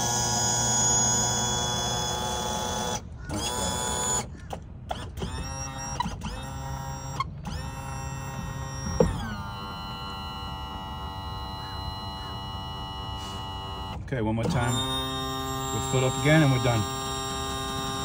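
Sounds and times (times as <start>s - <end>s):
electric pump motor whining: 0.0s - 18.0s.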